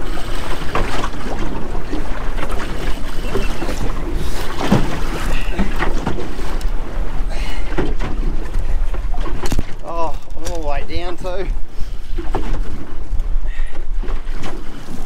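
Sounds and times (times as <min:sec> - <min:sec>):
sea washing: 0:00.0 - 0:15.0
wind buffeting microphone: 0:00.0 - 0:15.0.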